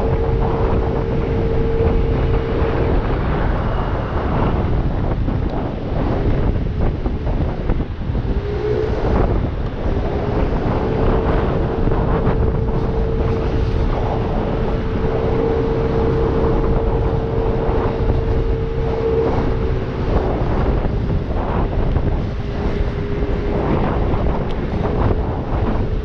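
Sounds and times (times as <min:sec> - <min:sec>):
scooter engine whine: 0:00.0 - 0:26.0
wind buffeting microphone: 0:00.0 - 0:26.0.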